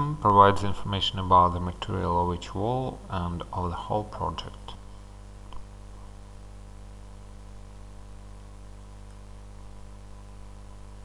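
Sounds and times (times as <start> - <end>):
background hiss: 0.0 - 11.0
electrical mains hum: 0.0 - 11.0.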